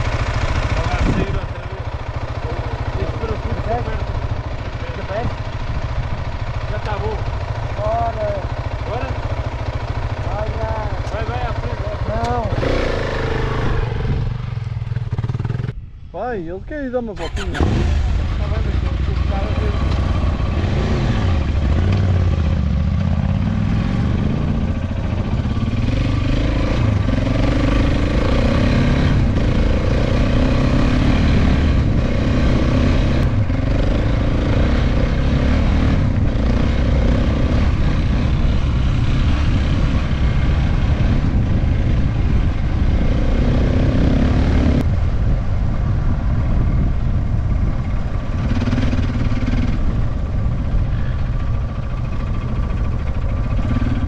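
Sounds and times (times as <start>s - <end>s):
motorcycle engine revving: 0.0s - 15.8s, 17.0s - 54.0s.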